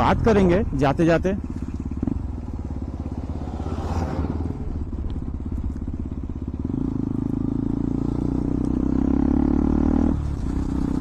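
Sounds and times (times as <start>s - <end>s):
motorcycle engine exhaust note: 0.0s - 11.0s.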